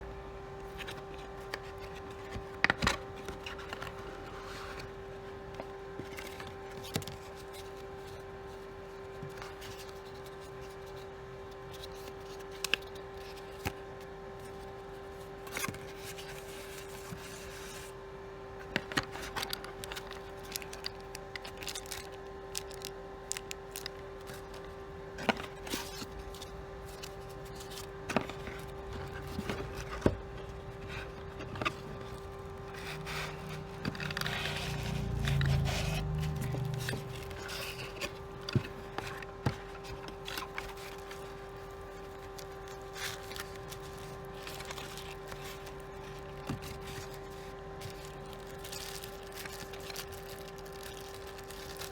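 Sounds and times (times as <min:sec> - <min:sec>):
steady hum: 0:00.0 - 0:51.9
packaging being handled: 0:00.6 - 0:18.0, 0:18.6 - 0:51.9.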